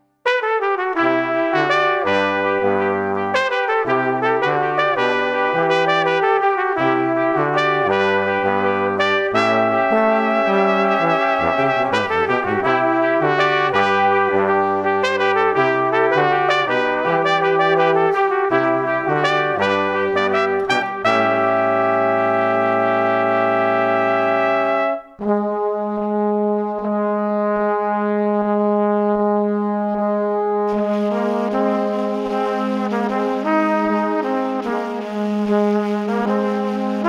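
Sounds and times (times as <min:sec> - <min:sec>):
brass band music: 0:00.2 - 0:37.0.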